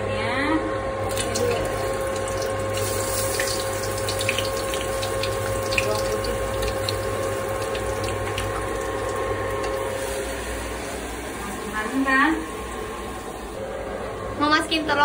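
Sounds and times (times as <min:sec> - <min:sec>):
steady hum: 0:00.0 - 0:15.0
garlic sizzling in oil: 0:01.0 - 0:13.6.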